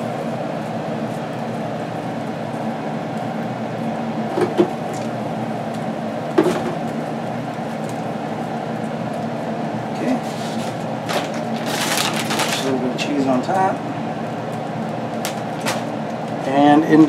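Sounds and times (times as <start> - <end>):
appliance or fan humming: 0.0 - 17.0.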